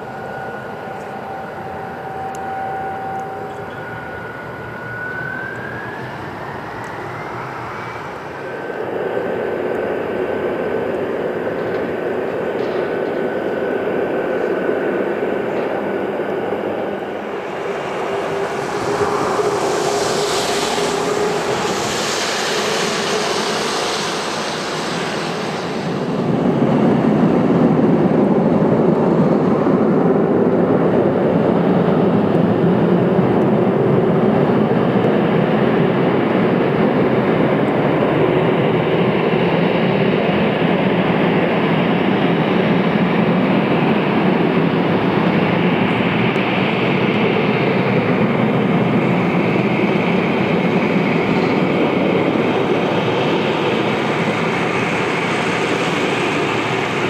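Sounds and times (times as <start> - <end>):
jet engine rumble: 0.0 - 57.0
jet engine whine: 0.0 - 57.0.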